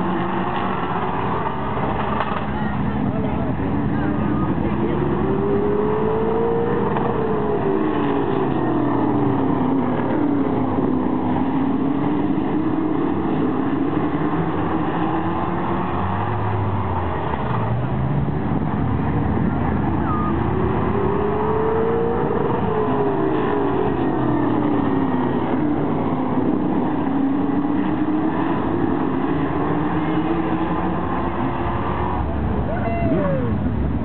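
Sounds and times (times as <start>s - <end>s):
stock car engines racing: 0.0s - 34.0s.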